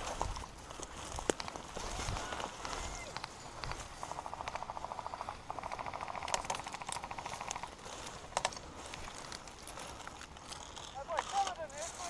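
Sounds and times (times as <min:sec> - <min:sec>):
dry stems rustling: 0:00.0 - 0:12.0.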